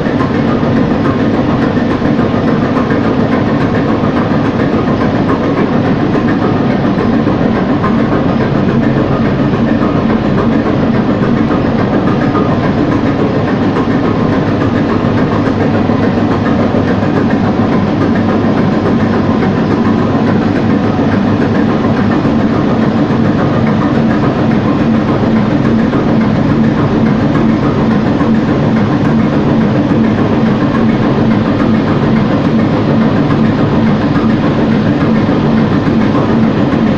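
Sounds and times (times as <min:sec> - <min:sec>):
marine diesel engine running: 0:00.0 - 0:36.9.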